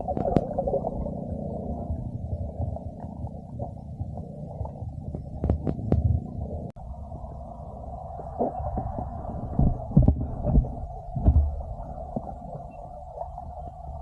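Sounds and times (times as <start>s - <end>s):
muffled low hum and rumble: 0.0s - 14.0s.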